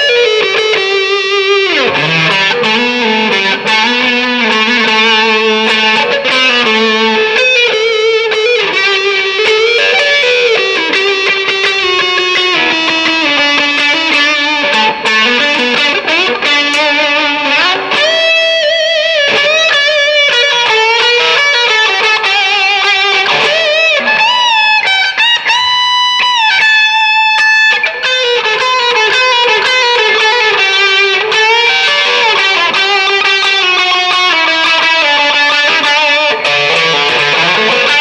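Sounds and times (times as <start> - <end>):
distorted electric guitar lead: 0.0 - 38.0.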